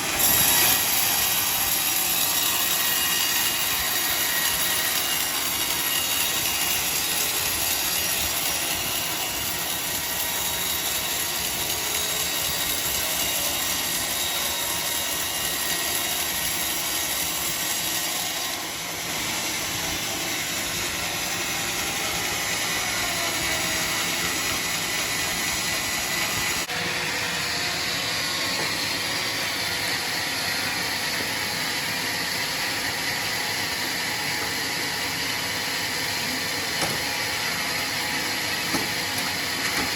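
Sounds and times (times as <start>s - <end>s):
power saw running: 0.0s - 39.9s.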